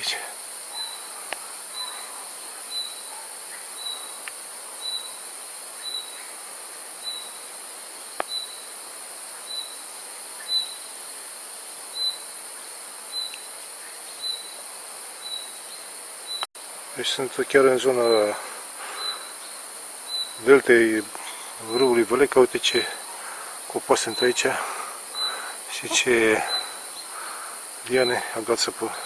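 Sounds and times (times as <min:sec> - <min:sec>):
insects shrilling: 0:00.0 - 0:29.0.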